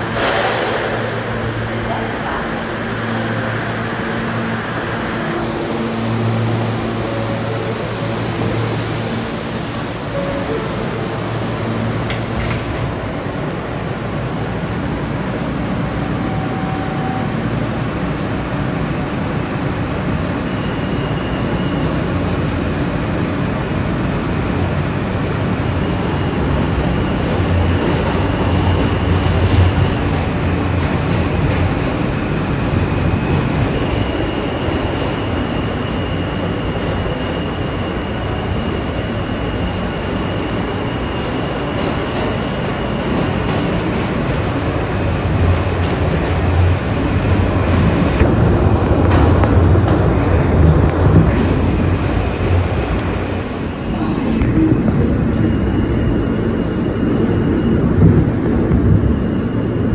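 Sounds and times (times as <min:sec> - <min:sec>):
subway wheels rumbling on rail: 0:00.0 - 0:59.9.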